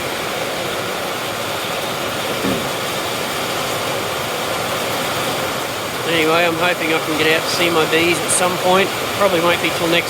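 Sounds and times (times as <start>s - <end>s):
heavy rain hissing: 0.0s - 10.0s
rushing floodwater: 0.0s - 10.0s.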